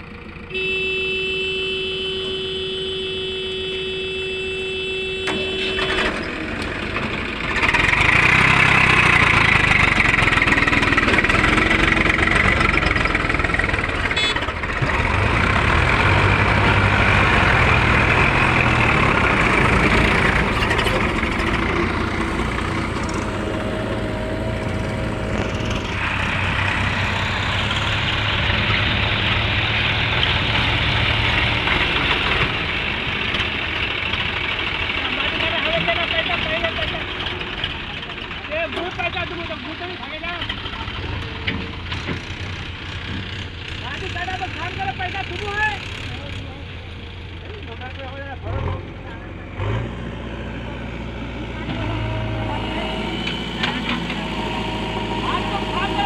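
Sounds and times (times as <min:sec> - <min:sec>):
diesel machinery engine running: 0:00.0 - 0:56.0.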